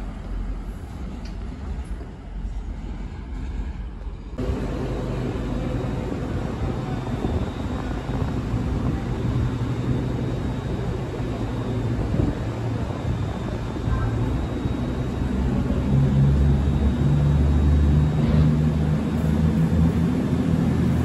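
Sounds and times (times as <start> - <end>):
diesel train engines droning: 0.0 - 21.0
station background noise: 0.0 - 21.0.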